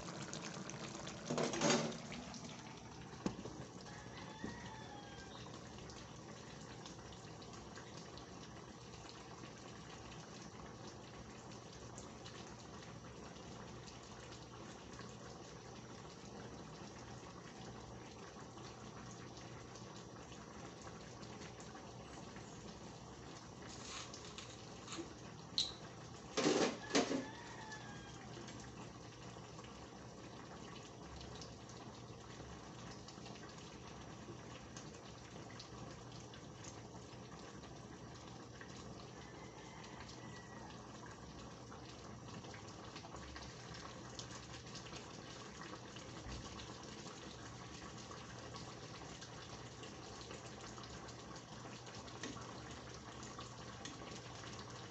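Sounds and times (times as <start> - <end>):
stew bubbling: 0.0 - 54.9.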